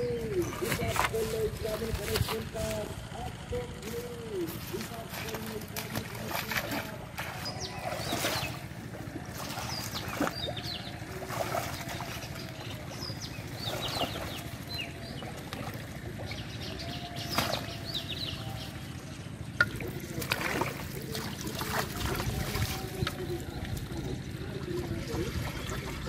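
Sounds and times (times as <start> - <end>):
wading through water splashing: 0.0 - 26.0.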